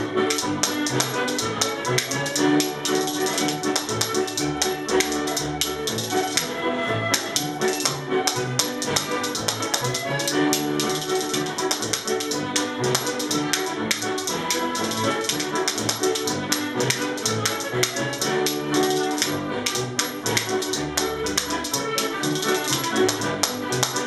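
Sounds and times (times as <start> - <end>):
country dance band music: 0.0 - 24.0
spoons clacking rhythmically: 0.0 - 24.0.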